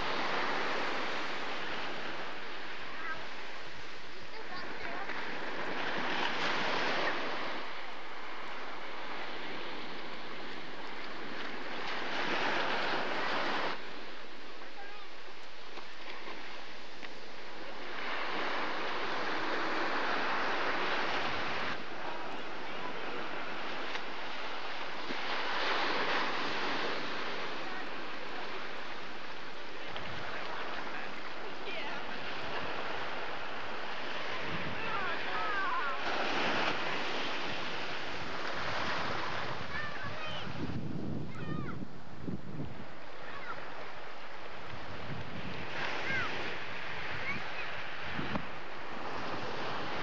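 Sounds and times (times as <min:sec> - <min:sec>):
ocean waves breaking on beach: 0:00.0 - 0:50.0.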